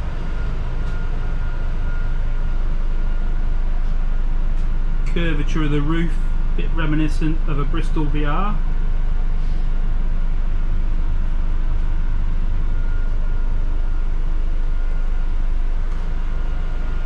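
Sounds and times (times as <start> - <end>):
bus engine idling: 0.0 - 17.0
faint steady whine: 0.0 - 17.0
ventilation blowers: 0.0 - 17.0.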